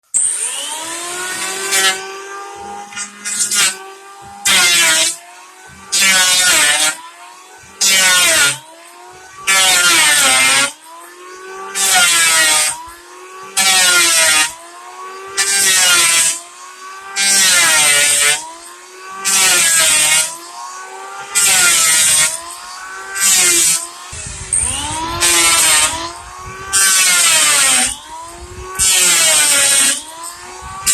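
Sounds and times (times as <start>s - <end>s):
planer blades shaving wood: 0.0s - 30.9s
electric planer motor whine: 0.1s - 30.9s.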